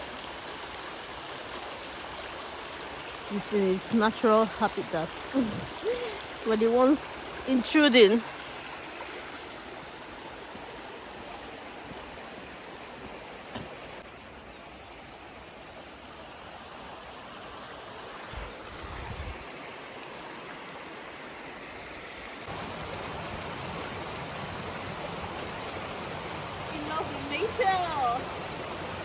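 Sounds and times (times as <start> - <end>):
stream and waterfall rushing: 0.0 - 29.0.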